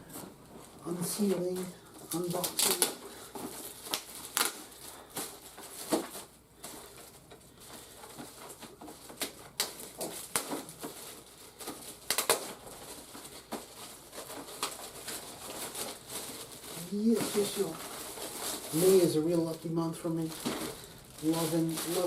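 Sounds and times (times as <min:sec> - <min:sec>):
packaging rustling and crinkling: 0:00.0 - 0:22.0.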